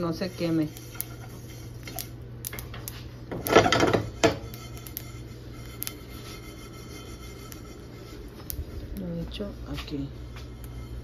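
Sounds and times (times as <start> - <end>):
seeds popping in a dry pan: 0.0 - 11.0
spatula scraping seeds across pan: 0.0 - 11.0.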